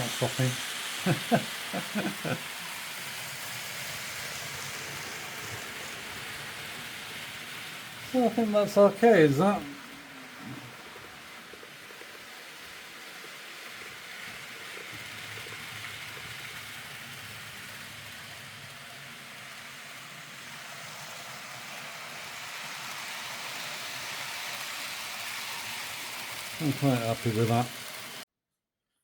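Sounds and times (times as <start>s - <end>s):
model train whirring on rails: 0.0s - 28.2s.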